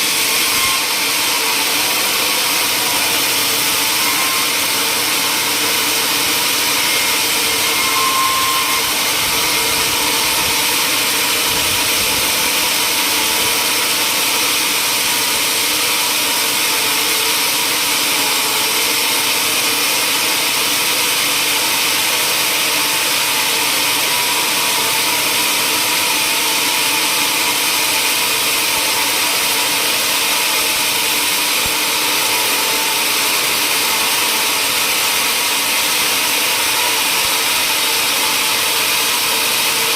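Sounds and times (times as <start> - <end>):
woodworking machine cutting wood: 0.0 - 39.9.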